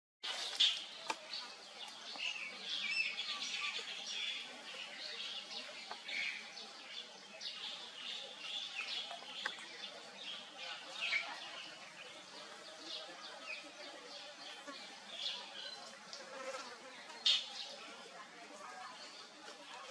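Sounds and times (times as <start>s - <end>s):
birds chirping: 0.2s - 19.9s.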